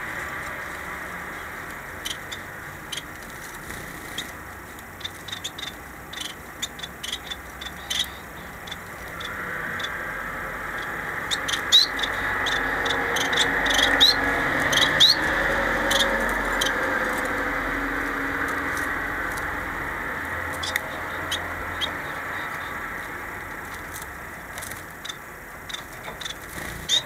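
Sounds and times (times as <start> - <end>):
rushing background noise: 0.0 - 27.0
finches chirping: 1.3 - 27.0.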